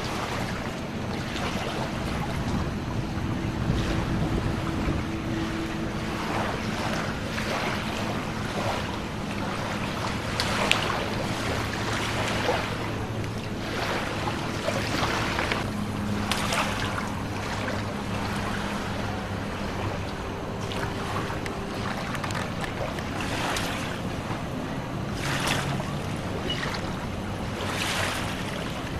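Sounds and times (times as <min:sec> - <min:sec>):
low steady hum: 0:00.0 - 0:28.9
water noise: 0:00.0 - 0:28.9
wind on microphone: 0:00.0 - 0:28.9.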